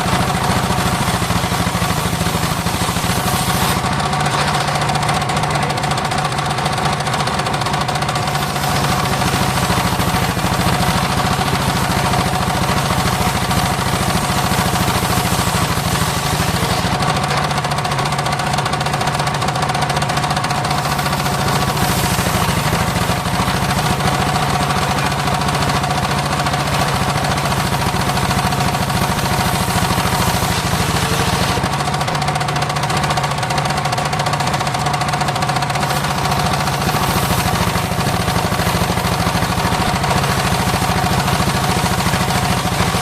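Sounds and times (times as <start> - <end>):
circular saw engine running: 0.0 - 33.8, 35.0 - 43.0.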